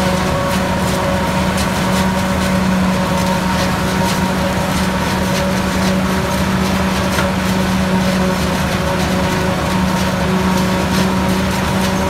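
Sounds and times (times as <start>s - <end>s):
forage harvester chopping maize: 0.0s - 12.0s
tractor running: 0.0s - 12.0s.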